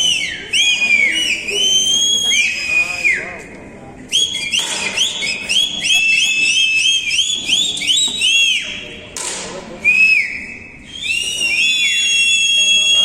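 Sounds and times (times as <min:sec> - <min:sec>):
high whistling: 0:00.0 - 0:03.4, 0:04.0 - 0:09.1, 0:09.8 - 0:13.0.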